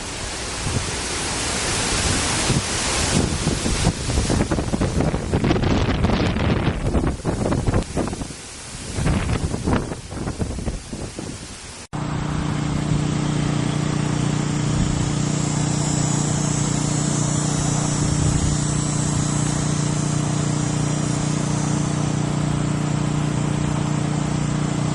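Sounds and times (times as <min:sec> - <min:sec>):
small engine running steadily: 0:00.0 - 0:10.8, 0:11.9 - 0:24.9
wind gusting: 0:00.0 - 0:23.4.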